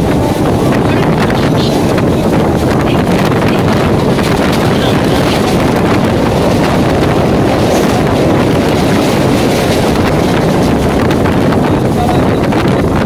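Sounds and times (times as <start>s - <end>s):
train wheel and track rush: 0.0s - 13.0s
wind buffeting microphone: 0.0s - 13.0s.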